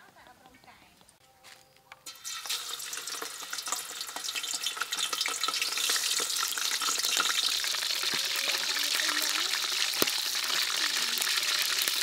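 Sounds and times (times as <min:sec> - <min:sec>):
frying in hot oil: 0:02.0 - 0:12.0.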